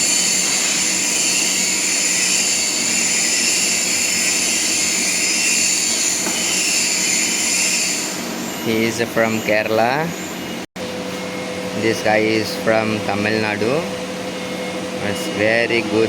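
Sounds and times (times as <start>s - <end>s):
loud machine whir with hiss: 0.0s - 16.0s.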